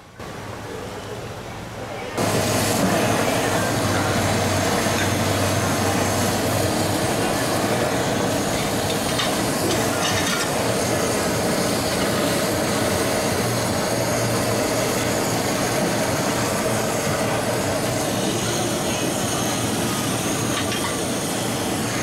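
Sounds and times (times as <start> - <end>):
gas torch flame: 2.2 - 22.0.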